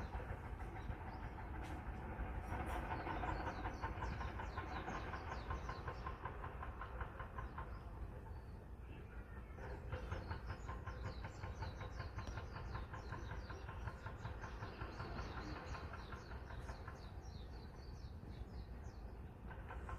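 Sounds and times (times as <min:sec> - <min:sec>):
small birds chirping: 0:00.0 - 0:19.8
boat engine chugging: 0:00.0 - 0:19.9.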